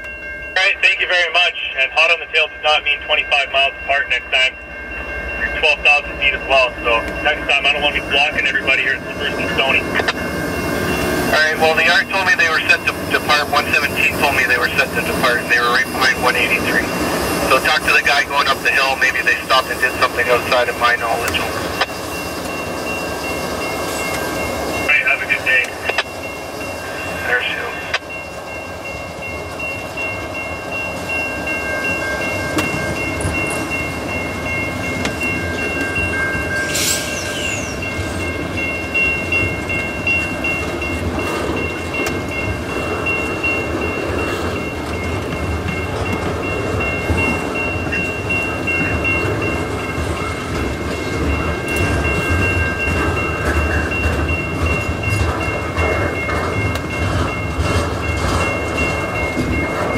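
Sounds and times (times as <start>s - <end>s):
freight train wheels rumbling: 0.0s - 59.9s
level crossing warning bell: 0.0s - 59.9s.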